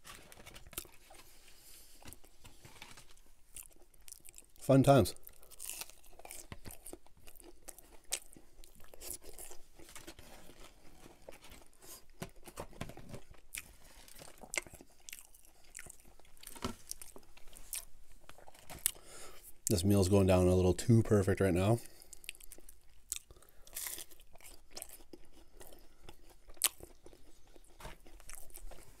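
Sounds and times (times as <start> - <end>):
chewing and crunching: 0.0 - 19.8, 21.7 - 29.0.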